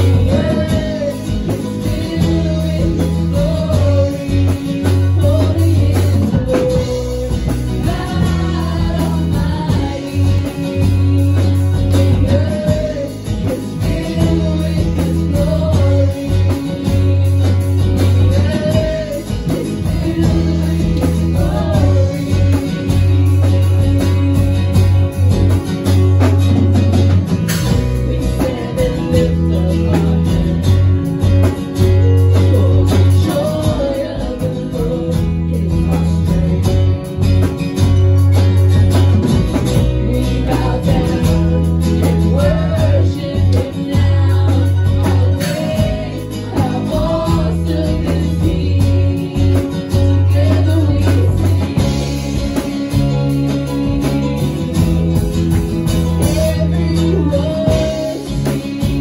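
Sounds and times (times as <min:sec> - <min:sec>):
woman singing lead vocal: 0:00.0 - 0:23.8, 0:27.6 - 0:30.8, 0:32.4 - 0:37.2, 0:39.6 - 0:59.0
second singer: 0:00.0 - 0:25.1, 0:27.5 - 0:31.4, 0:32.0 - 0:37.4, 0:39.4 - 0:59.0
acoustic guitar: 0:00.0 - 0:59.0
drum kit: 0:00.0 - 0:59.0
electric guitar: 0:00.0 - 0:59.0
sustained bass notes: 0:00.0 - 0:59.0.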